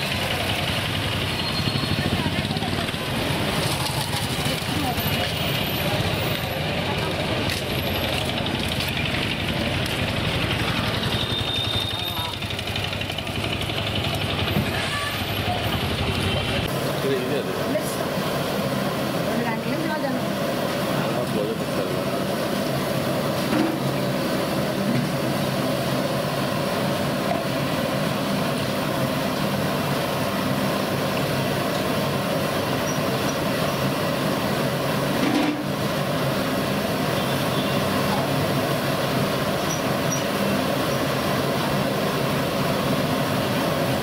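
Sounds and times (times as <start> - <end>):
deep-frying sizzle: 0.0 - 44.0.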